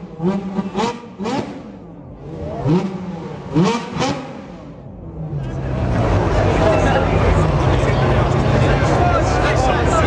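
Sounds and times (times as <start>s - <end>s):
sports car engine revving: 0.0s - 10.0s.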